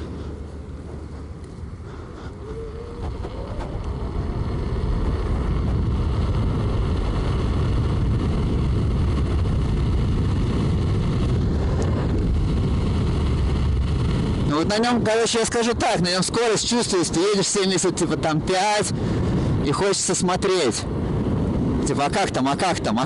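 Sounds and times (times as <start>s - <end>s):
road rumble: 0.0s - 23.0s
wind rushing over microphone: 0.0s - 23.0s.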